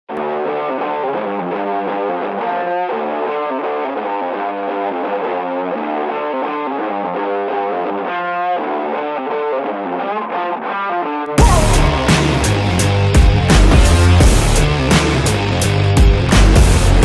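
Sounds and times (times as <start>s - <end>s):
distorted guitar music: 0.1s - 17.0s.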